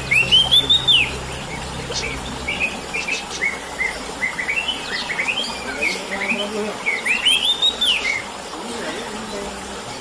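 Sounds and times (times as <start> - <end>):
bird chirping: 0.0 - 8.6.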